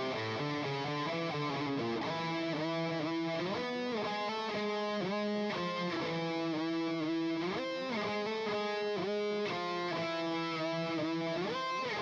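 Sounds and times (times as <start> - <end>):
electric guitar lead with bends: 0.0 - 12.0.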